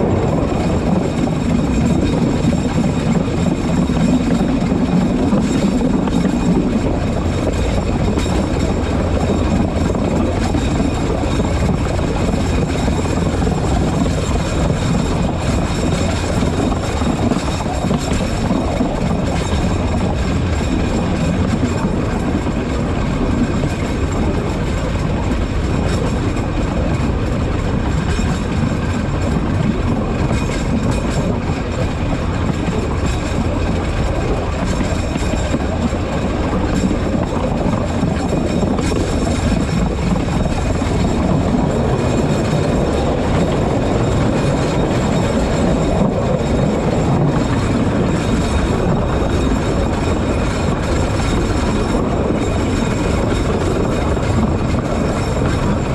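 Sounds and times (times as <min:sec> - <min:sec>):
train wheels on rails: 0:00.0 - 0:55.9.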